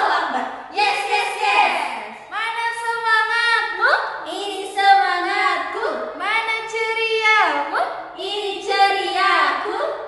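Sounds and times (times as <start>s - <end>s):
women singing unaccompanied: 0.0s - 10.0s.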